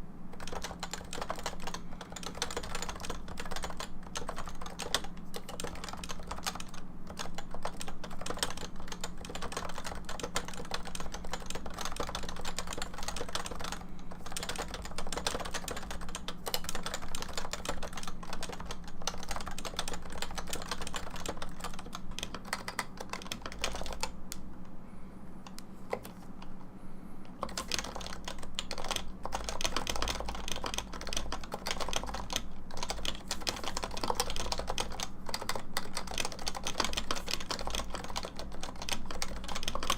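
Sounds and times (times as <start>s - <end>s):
faint steady hum: 0.0s - 39.9s
fast typing on computer keyboard: 0.3s - 24.2s, 27.4s - 39.9s.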